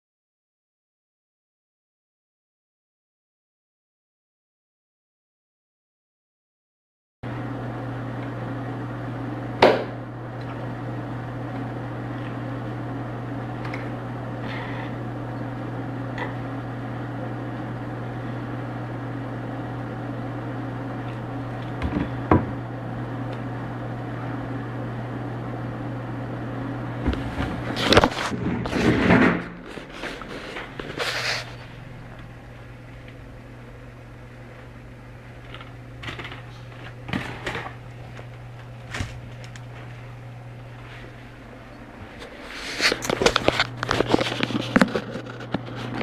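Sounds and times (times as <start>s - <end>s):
steady low hum: 7.3s - 46.0s.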